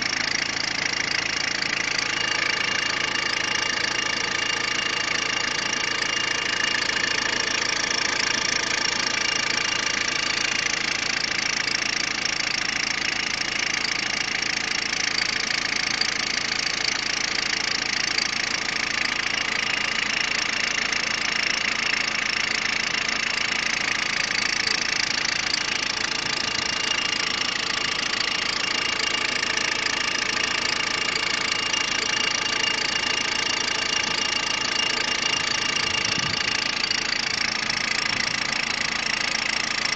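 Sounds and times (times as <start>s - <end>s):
car engine idling with clatter: 0.0s - 39.9s.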